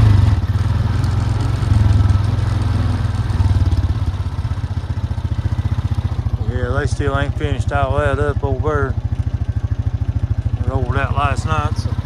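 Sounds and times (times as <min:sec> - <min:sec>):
farm vehicle engine running: 0:00.0 - 0:12.0.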